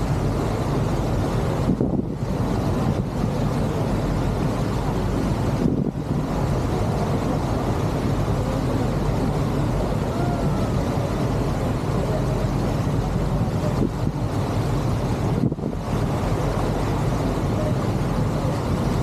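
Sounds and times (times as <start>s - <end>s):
low mechanical rumble with hiss: 0.0s - 19.0s.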